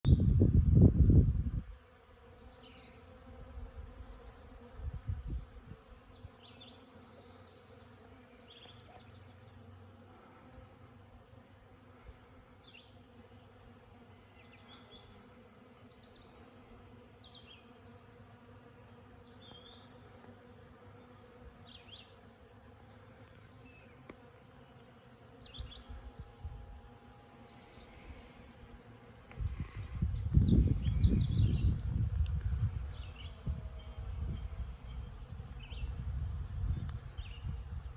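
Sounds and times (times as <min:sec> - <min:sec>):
bees buzzing: 0:00.2 - 0:37.9.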